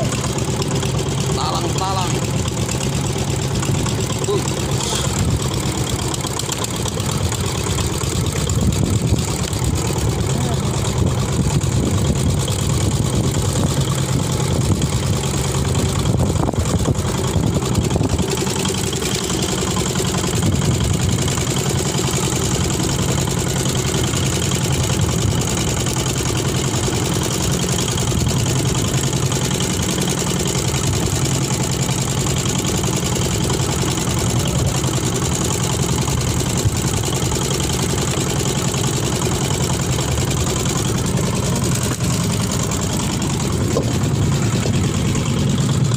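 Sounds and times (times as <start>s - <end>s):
boat engine idling: 0.0s - 45.9s.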